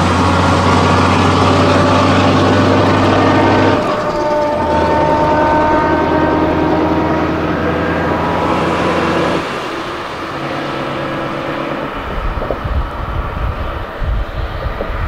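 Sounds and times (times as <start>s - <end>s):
low buffeting: 0.0s - 15.0s
vehicle rumbling: 0.0s - 15.0s
held multi-pitch tone: 0.1s - 12.5s.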